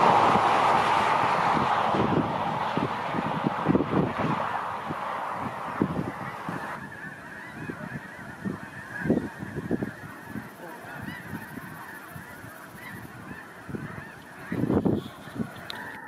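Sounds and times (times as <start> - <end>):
geese calling: 0.0 - 16.0
louder low goose calls: 0.0 - 16.0.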